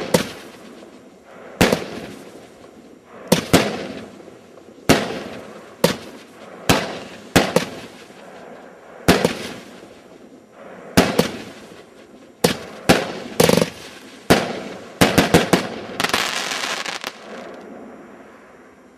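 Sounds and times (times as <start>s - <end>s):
firework bangs: 0.0s - 17.8s.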